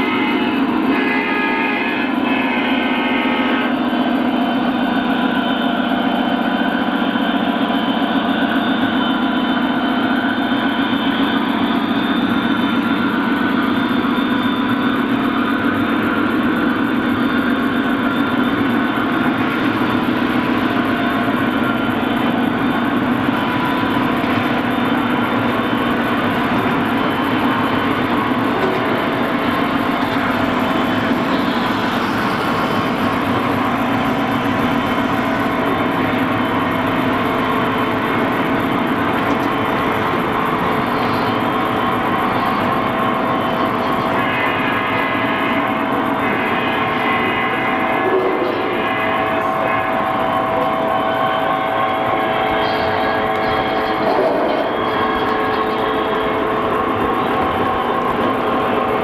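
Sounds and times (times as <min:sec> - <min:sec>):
model train rolling rumble: 0:00.0 - 0:59.0.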